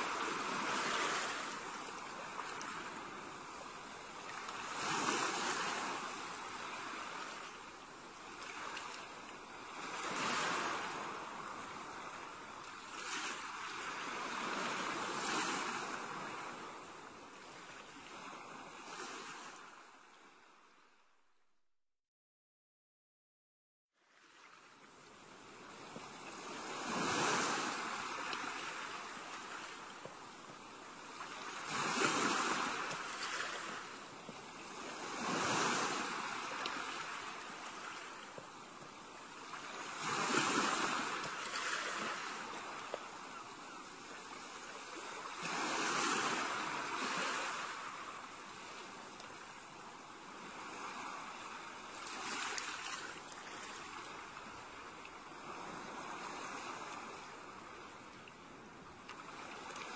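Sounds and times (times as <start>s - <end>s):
ocean waves breaking on beach: 0.0s - 20.9s, 24.0s - 59.9s.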